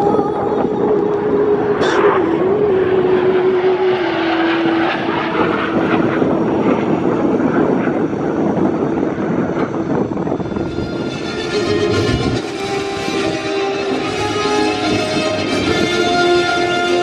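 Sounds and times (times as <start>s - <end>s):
jet roar flying past: 1.1s - 17.0s.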